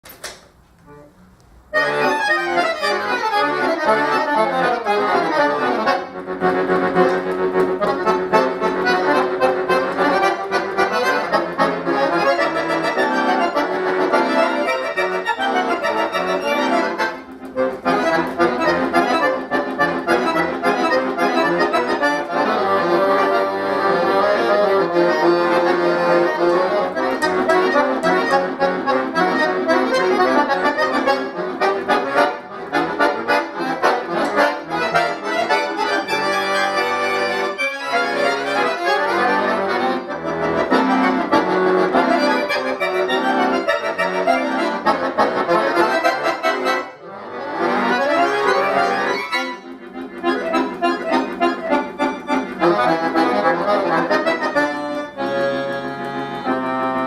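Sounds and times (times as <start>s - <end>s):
solo accordion playing: 0.9s - 57.0s.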